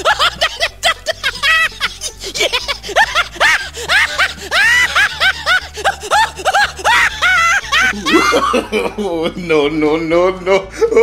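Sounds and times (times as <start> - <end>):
comic background music: 0.0 - 11.0.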